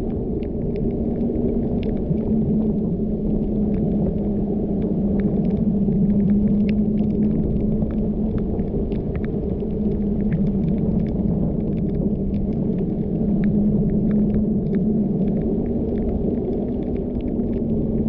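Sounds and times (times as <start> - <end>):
car engine and tyres rumbling: 0.0 - 18.0
light ticks: 0.0 - 18.0.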